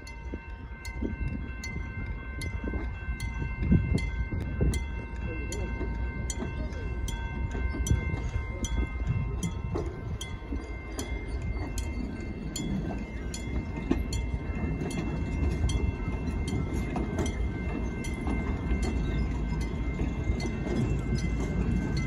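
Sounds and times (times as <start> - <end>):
crossing bell ringing: 0.0 - 22.0
train wheels rumbling on rail: 0.0 - 22.0.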